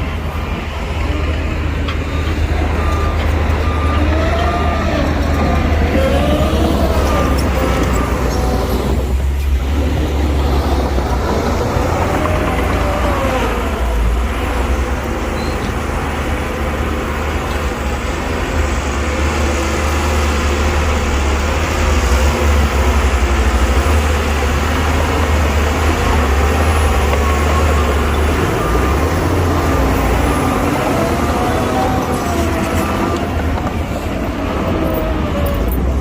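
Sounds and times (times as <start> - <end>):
diesel machinery engine rumble: 0.0 - 36.0.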